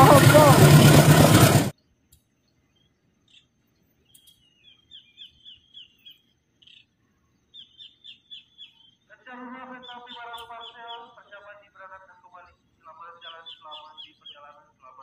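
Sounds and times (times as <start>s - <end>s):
songbird singing: 1.7s - 15.0s.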